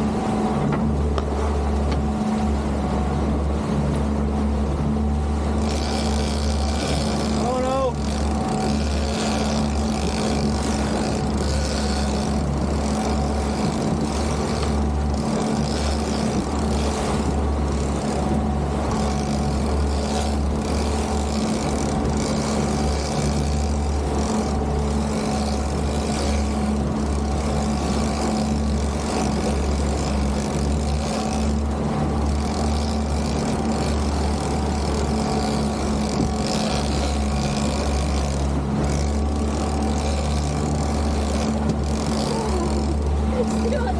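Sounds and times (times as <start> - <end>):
boat engine humming: 0.0 - 43.9
wind: 0.0 - 43.9.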